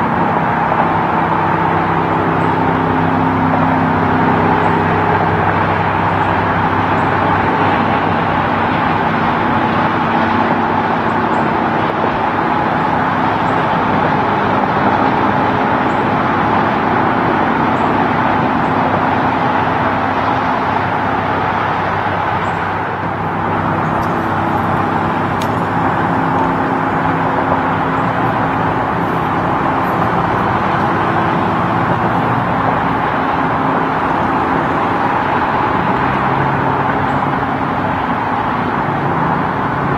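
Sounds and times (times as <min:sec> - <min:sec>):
truck engines droning: 0:00.0 - 0:39.9
tyre hum on road: 0:00.0 - 0:39.9.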